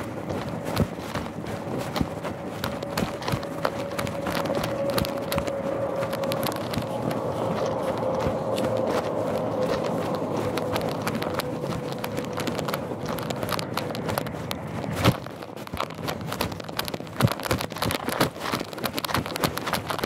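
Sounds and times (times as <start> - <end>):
footsteps on gravel: 0.0 - 20.0.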